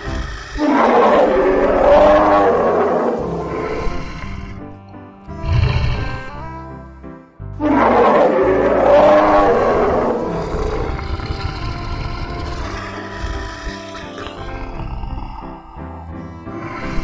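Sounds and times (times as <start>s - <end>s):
bear roaring: 0.0s - 4.8s, 5.4s - 6.8s, 7.6s - 17.0s
background music: 0.0s - 17.0s.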